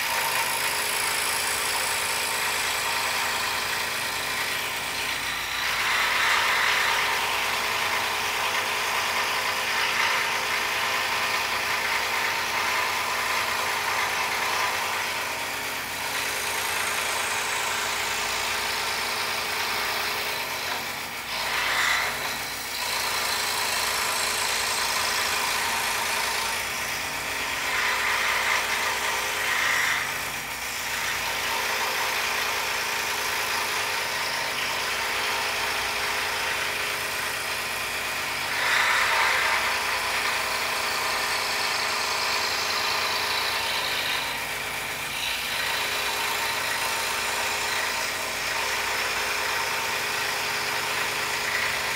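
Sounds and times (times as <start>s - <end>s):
scroll saw cutting wood: 0.0s - 51.9s.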